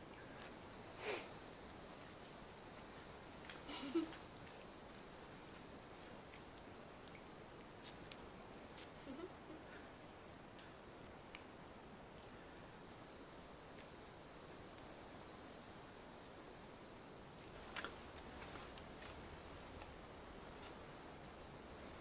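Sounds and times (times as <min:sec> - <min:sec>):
forest insects droning: 0:00.0 - 0:22.0.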